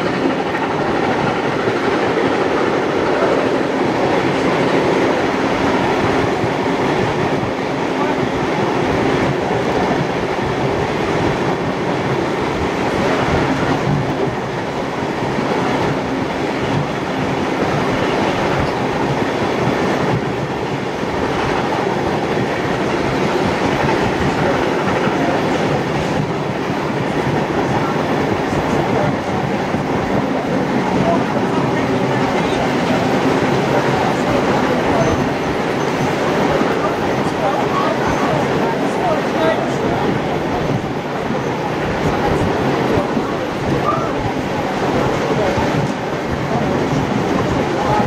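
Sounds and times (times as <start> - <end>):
train wheels rolling on rails: 0.0 - 48.0.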